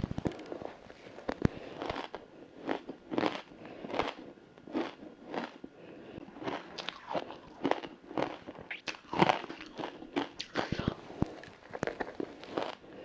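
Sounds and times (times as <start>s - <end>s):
crunching of ice being chewed: 1.1s - 13.0s.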